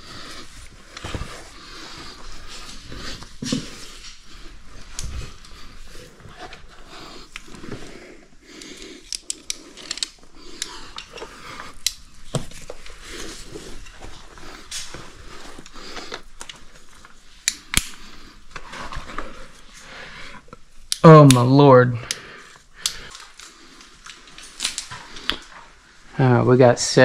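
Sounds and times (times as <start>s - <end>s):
soft breathing: 0.0s - 20.9s, 22.0s - 26.2s.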